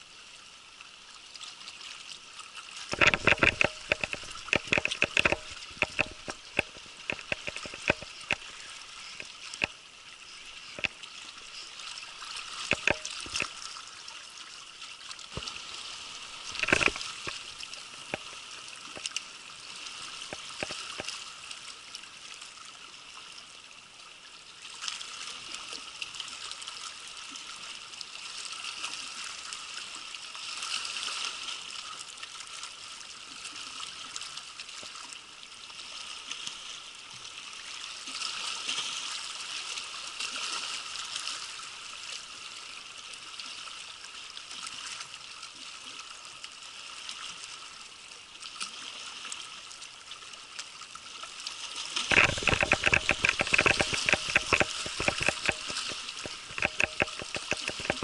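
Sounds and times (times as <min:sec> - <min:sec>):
waves lapping on rocks: 0:00.0 - 0:58.0.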